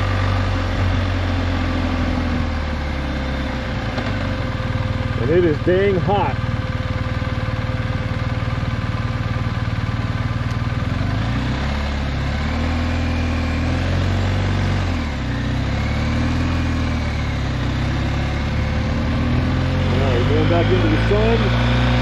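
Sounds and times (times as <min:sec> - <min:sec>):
motorcycle engine pulling away: 0:00.0 - 0:22.0.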